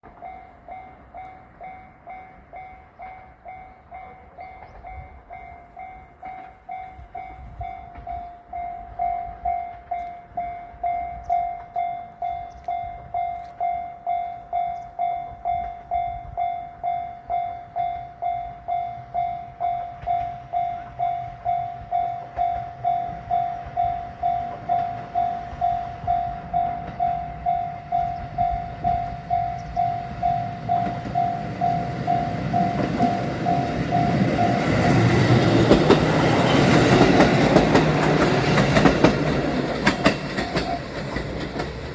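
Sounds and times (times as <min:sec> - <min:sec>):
level crossing warning bell: 0:00.0 - 0:41.7
approaching train rumble: 0:00.0 - 0:41.9.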